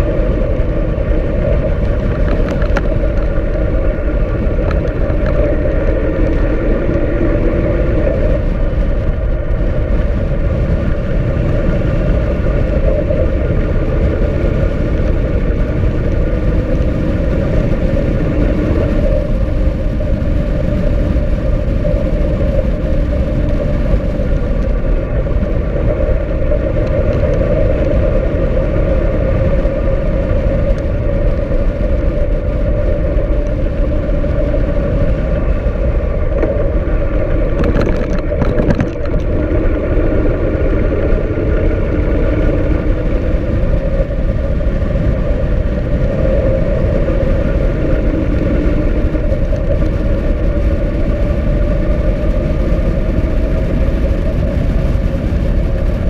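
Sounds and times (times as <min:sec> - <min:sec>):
motorcycle engine droning: 0:00.0 - 0:56.0
wind rush on microphone: 0:00.0 - 0:56.0.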